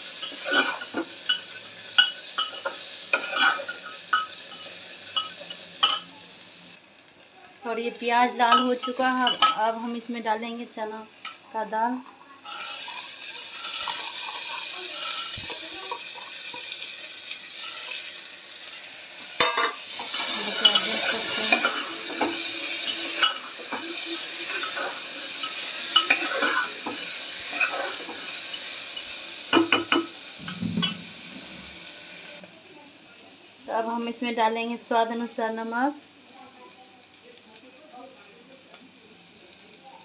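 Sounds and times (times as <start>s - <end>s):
lentils sizzling in hot oil: 0.0s - 40.0s.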